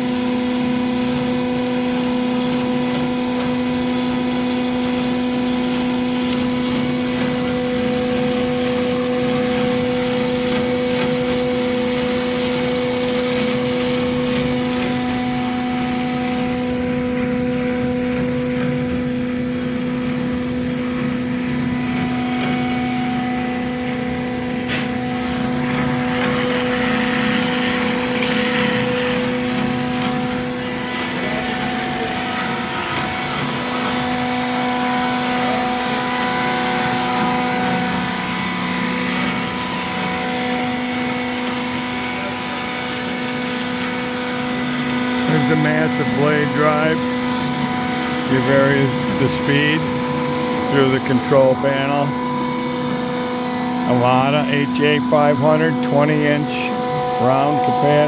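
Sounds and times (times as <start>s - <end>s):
bandsaw machine hum: 0.0s - 58.0s.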